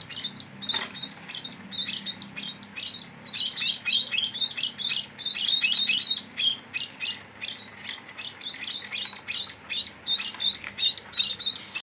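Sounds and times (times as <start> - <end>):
sparrows chirping: 0.0 - 11.8.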